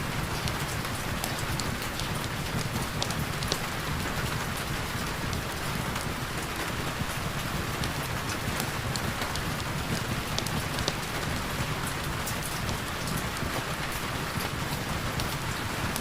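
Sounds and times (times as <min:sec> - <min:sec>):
raindrops ticking on a surface: 0:00.0 - 0:16.0.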